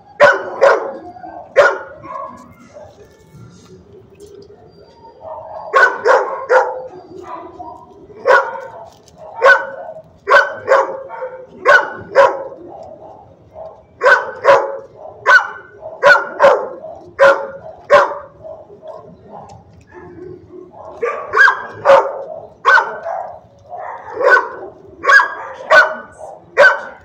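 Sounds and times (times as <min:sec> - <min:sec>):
dog barking: 0:00.2 - 0:03.0, 0:05.2 - 0:27.0.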